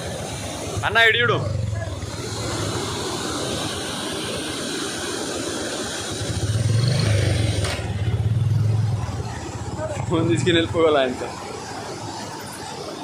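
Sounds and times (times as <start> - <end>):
water roaring through spillway: 0.0 - 13.0.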